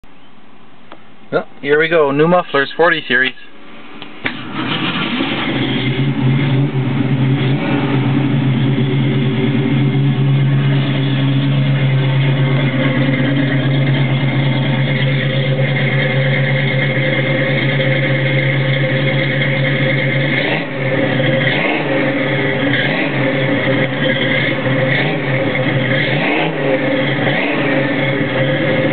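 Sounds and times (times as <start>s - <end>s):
car engine idling: 0.1s - 28.9s.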